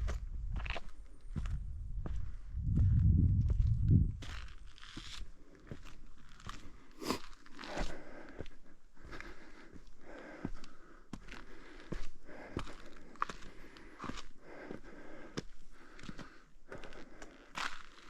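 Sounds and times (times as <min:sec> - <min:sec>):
footsteps crunching on trail: 0:00.0 - 0:18.0.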